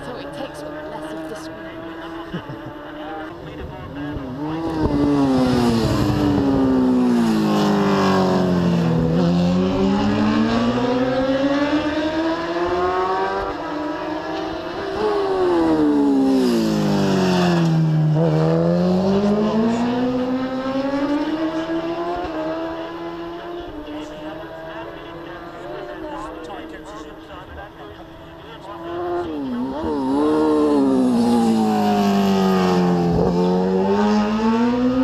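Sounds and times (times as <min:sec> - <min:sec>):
racing motorcycles passing: 0:00.0 - 0:35.0.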